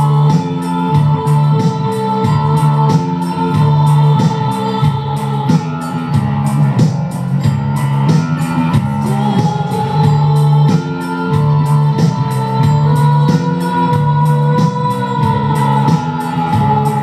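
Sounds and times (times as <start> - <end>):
organ-like keyboard chords: 0.0 - 17.0
steady ticking beat: 0.0 - 17.0.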